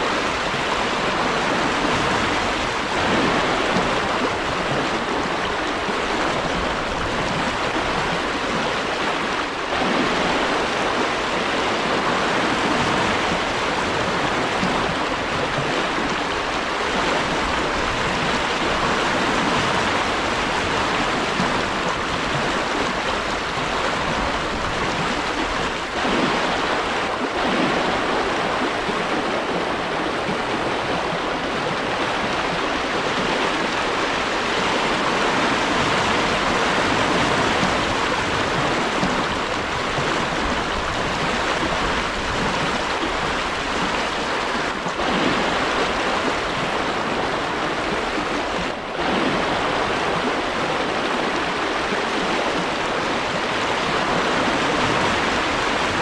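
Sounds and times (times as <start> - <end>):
river water rushing over riffles: 0.0 - 56.0.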